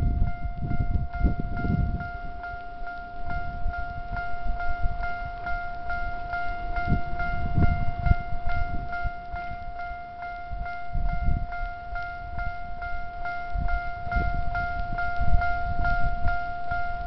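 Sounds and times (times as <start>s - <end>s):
level-crossing warning bell ringing: 0.0s - 17.0s
low rumble: 0.0s - 17.0s.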